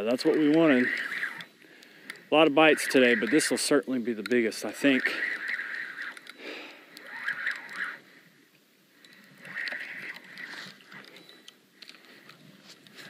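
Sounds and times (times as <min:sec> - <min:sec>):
fishing reel cranking: 0:00.1 - 0:08.1, 0:09.0 - 0:12.0.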